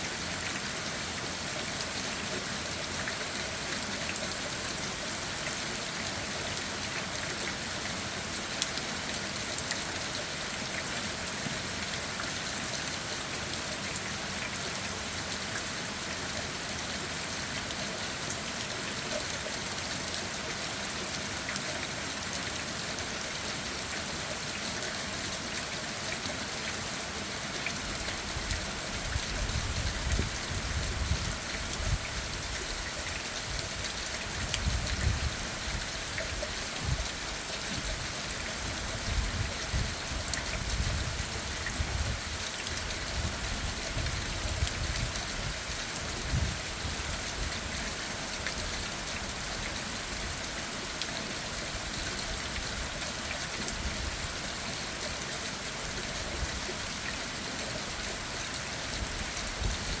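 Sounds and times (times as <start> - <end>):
rain pattering on leaves: 0.0 - 60.0.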